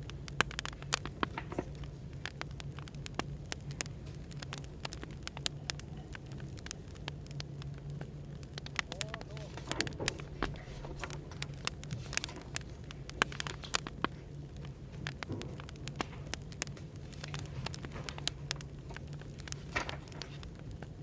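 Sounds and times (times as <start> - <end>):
cafe background hum: 0.0 - 21.0
firewood crackling and popping: 0.0 - 21.0.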